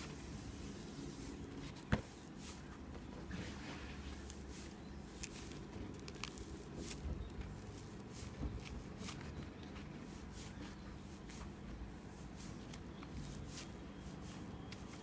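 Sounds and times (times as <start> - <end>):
fingers rustling on foam sponge: 0.0 - 15.0
low room hum: 0.0 - 15.0.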